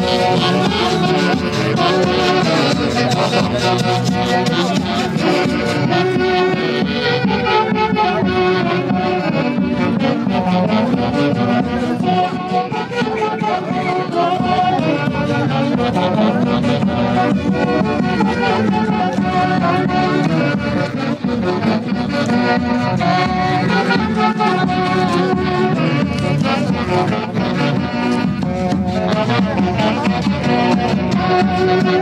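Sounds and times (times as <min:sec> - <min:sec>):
folk orchestra with saxophones: 0:00.0 - 0:32.0.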